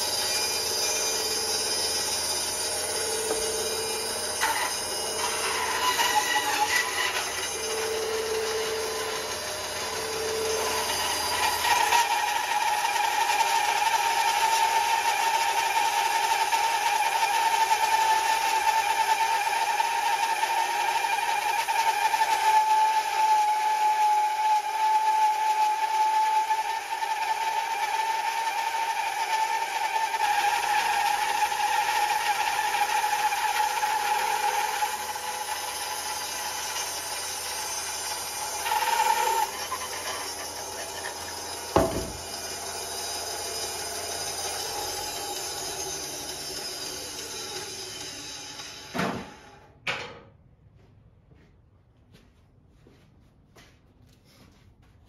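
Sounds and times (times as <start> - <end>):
bandsaw cutting wood: 0.0 - 49.4.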